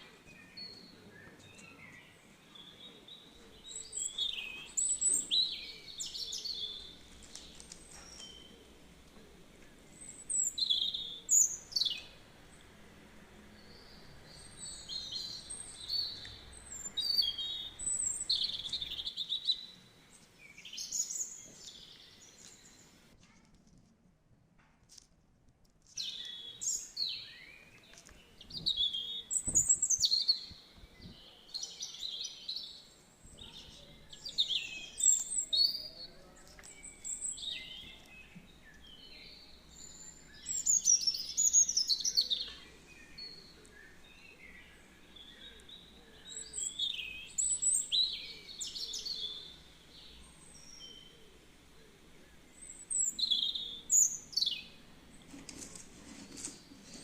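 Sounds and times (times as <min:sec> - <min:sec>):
songbirds chirping and singing: 0:00.0 - 0:23.1, 0:26.0 - 0:57.0.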